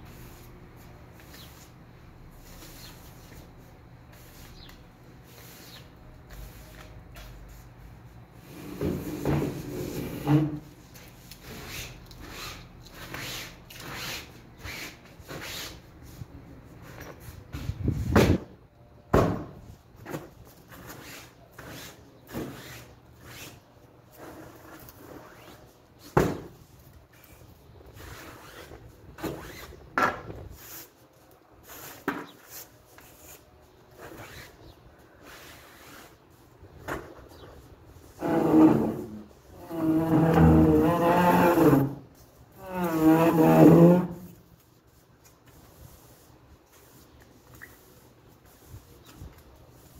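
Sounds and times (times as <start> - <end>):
broom sweeping stone tiles: 0.0 - 18.5, 19.6 - 49.9.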